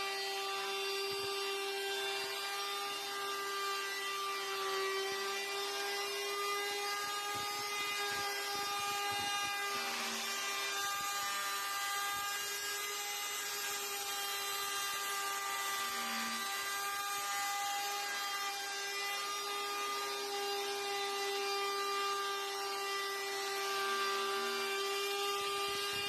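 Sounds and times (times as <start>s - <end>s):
electric power tool whining: 0.0s - 26.0s.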